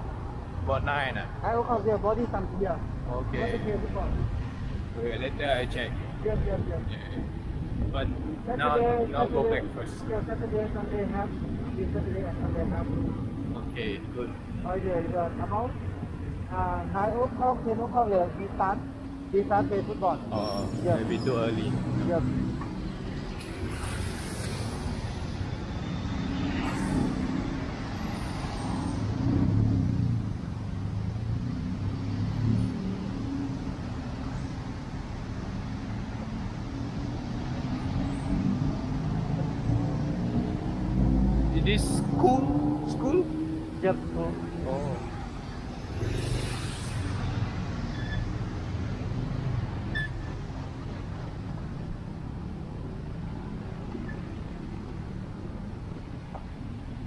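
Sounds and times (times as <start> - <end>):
vehicle engine in traffic: 0.0 - 57.0.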